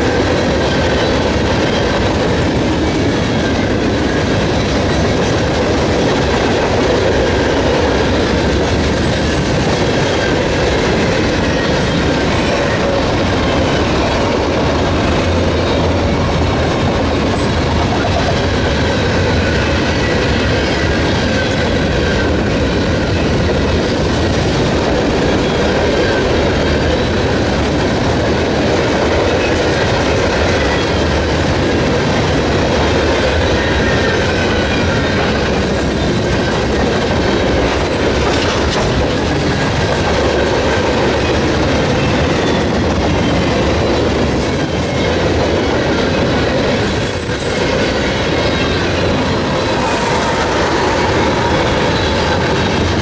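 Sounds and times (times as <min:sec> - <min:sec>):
freight train wheels clattering: 0:00.0 - 0:53.0.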